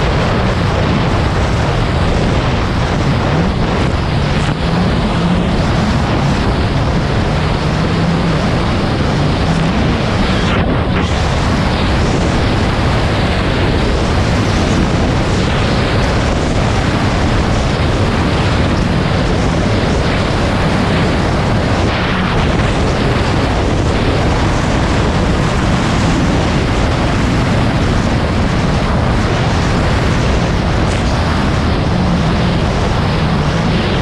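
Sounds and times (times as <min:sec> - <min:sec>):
personal watercraft engine running: 0:00.0 - 0:34.0
wind blasting microphone: 0:00.0 - 0:34.0.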